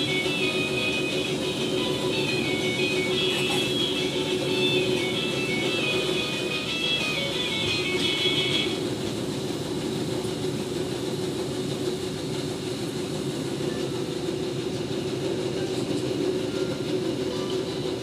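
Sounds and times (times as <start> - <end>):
train wheels on rails: 0.0 - 18.0.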